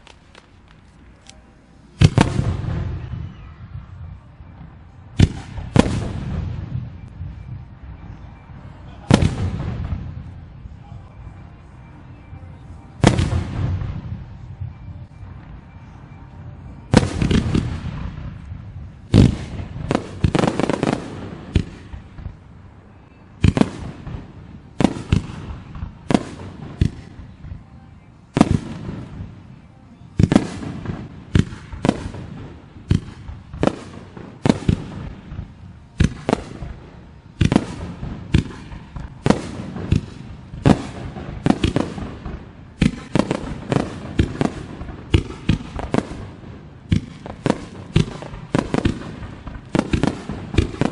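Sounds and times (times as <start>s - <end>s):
fireworks bursting with echoing bangs: 1.9s - 7.5s, 9.0s - 10.7s, 13.0s - 16.2s, 16.8s - 27.6s, 28.3s - 50.9s.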